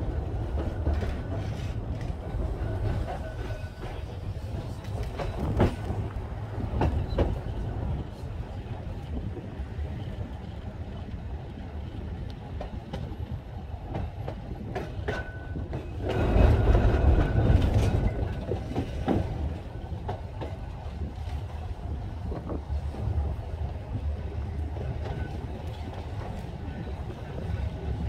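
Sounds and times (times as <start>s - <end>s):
tram rumbling on track: 0.0s - 28.0s
wind buffeting microphone: 0.0s - 28.0s.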